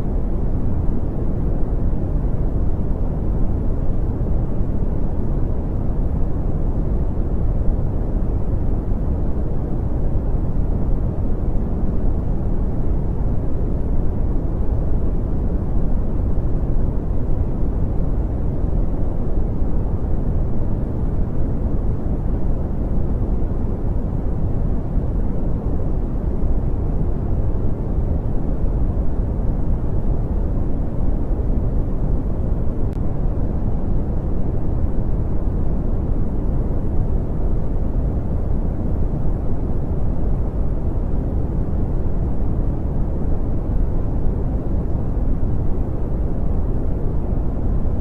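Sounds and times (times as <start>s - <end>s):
deep rumbling brown noise: 0.0s - 48.0s.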